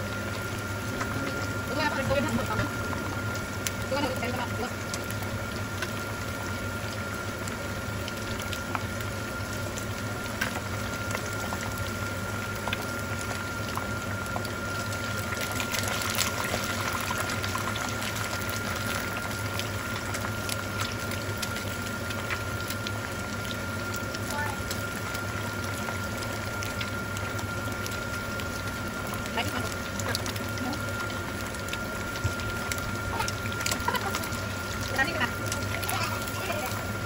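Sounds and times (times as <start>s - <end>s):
deep-frying sizzle and bubbling: 0.0s - 37.0s.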